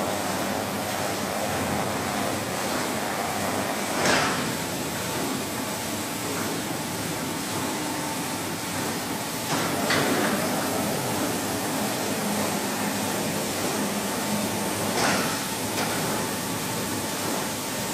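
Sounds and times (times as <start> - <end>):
carpet washing machine running: 0.0 - 17.9.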